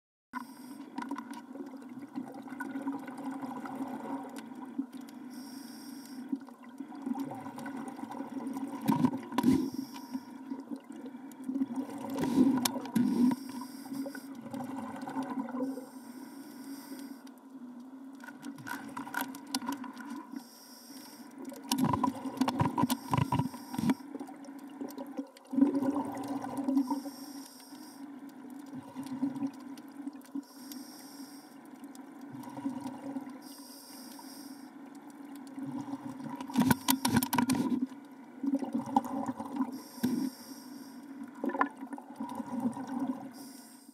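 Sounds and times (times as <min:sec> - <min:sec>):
low water hum: 0:00.4 - 0:43.9
water sloshing and bubbling: 0:00.4 - 0:43.9.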